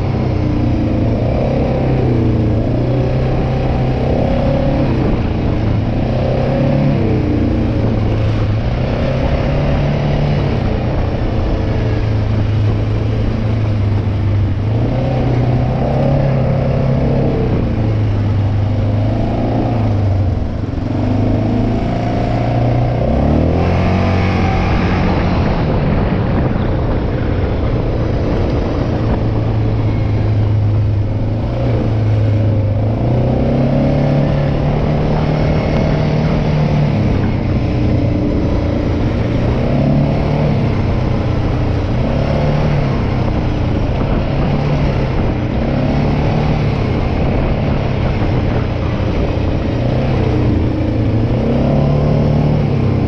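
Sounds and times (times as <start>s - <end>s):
quad bike engine revving: 0.0s - 53.0s.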